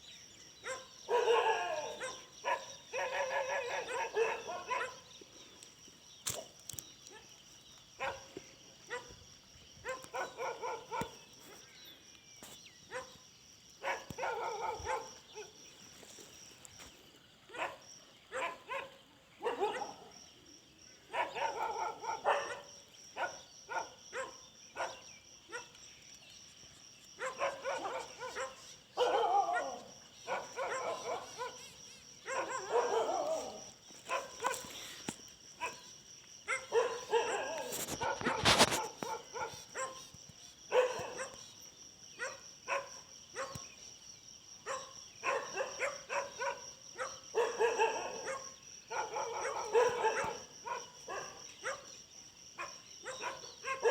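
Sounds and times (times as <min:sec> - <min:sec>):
dogs barking: 0:00.6 - 0:05.2, 0:08.0 - 0:09.2, 0:09.8 - 0:11.6, 0:12.9 - 0:13.2, 0:13.8 - 0:16.3, 0:17.5 - 0:20.2, 0:21.0 - 0:25.8, 0:27.2 - 0:41.6, 0:42.2 - 0:43.8, 0:44.6 - 0:53.9.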